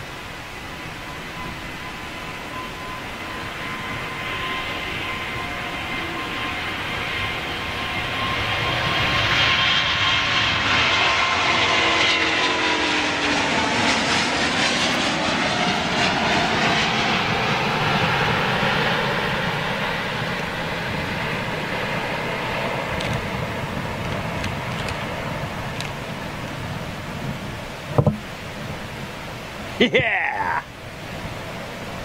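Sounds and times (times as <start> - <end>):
jet engine roar: 0.0 - 32.0
jet engine whine sliding down: 0.0 - 32.0.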